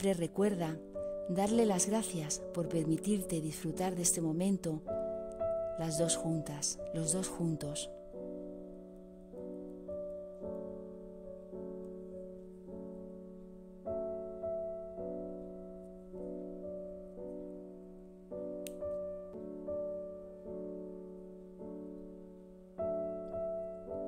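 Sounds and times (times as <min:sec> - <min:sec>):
soft piano chords: 0:00.0 - 0:24.0.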